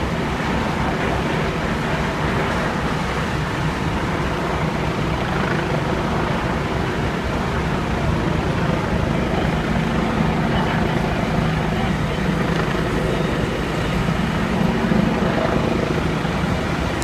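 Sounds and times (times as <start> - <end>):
diesel engines running: 0.0 - 17.0.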